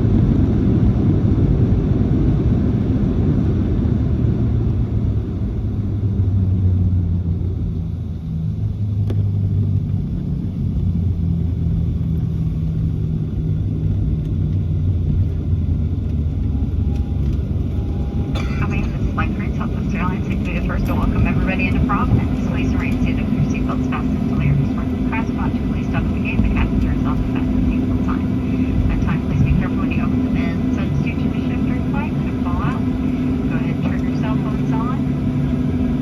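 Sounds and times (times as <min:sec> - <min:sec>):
jet engine rumble: 0:00.0 - 0:36.0.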